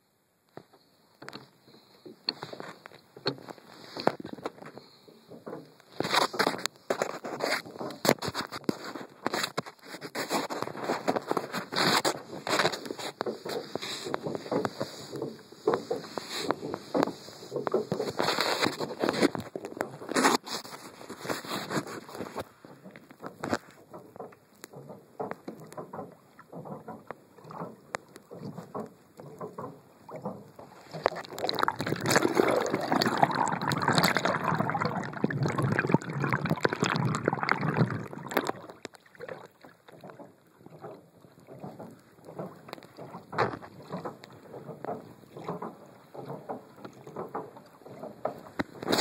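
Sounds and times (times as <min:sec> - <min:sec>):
water sloshing and splashing: 0:01.2 - 0:49.0.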